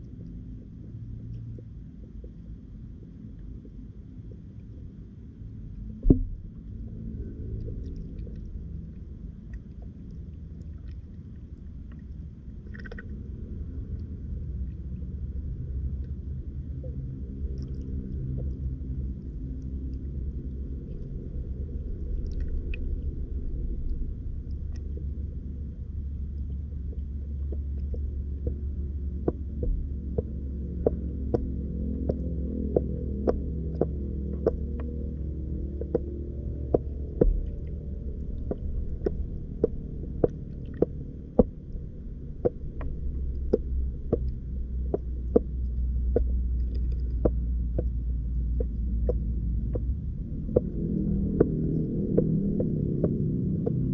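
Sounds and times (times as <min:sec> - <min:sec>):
low underwater rumble and hum: 0:00.0 - 0:53.9
sharp underwater clicks: 0:07.5 - 0:14.8, 0:16.9 - 0:25.4, 0:26.2 - 0:53.9.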